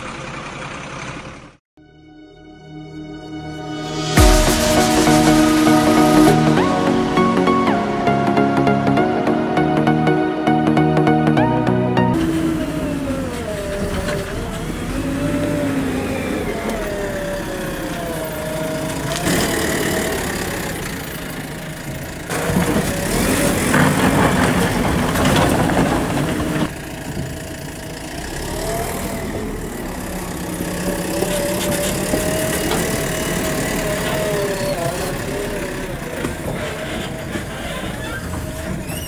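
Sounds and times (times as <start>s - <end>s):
engine with wavering pitch: 0.0s - 39.0s.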